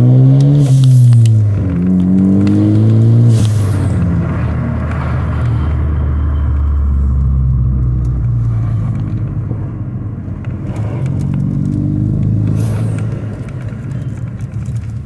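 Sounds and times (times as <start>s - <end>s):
car engine and exhaust accelerating: 0.0s - 15.0s.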